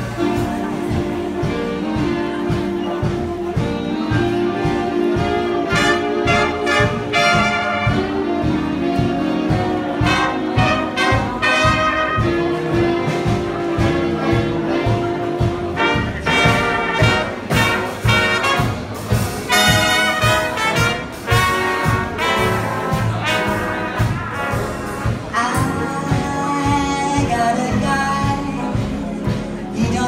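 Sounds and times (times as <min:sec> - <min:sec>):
swing orchestra with brass: 0:00.0 - 0:30.0.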